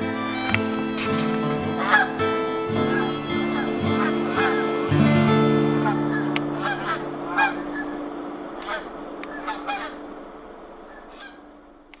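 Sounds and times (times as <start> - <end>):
geese honking: 0.0 - 10.1.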